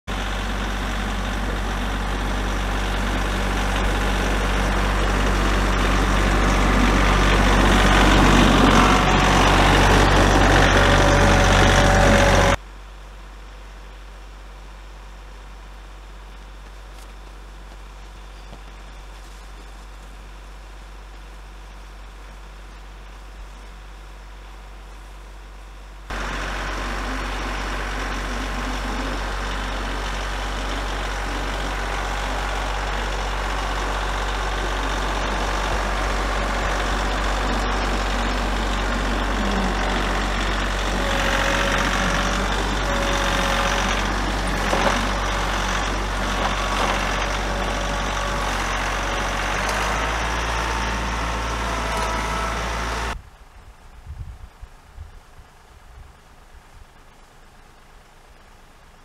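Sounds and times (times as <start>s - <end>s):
tractor engine running: 0.0s - 53.2s.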